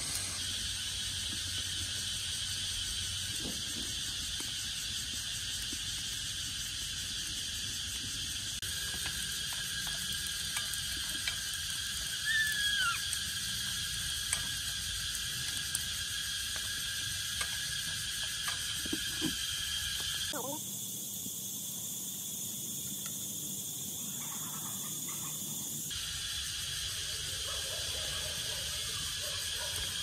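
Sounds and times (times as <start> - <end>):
night insects chorus: 0.0 - 30.0.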